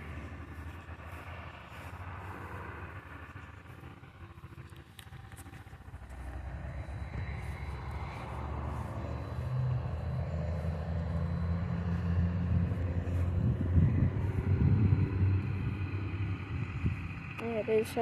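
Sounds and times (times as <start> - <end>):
large vehicle engine running: 0.0 - 18.0.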